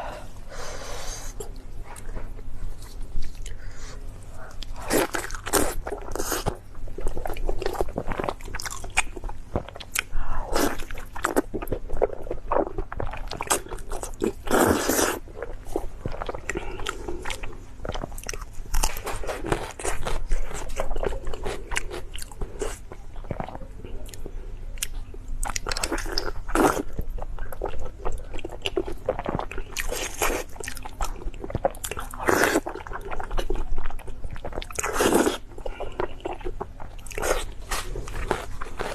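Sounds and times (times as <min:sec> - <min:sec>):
person chewing crunchy food: 0:01.4 - 0:38.9.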